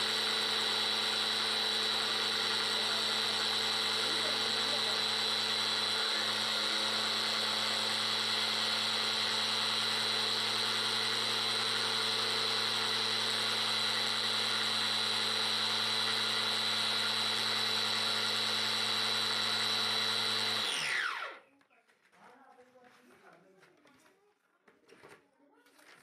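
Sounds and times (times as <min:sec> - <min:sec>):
electric grain grinder whining: 0:00.0 - 0:21.5.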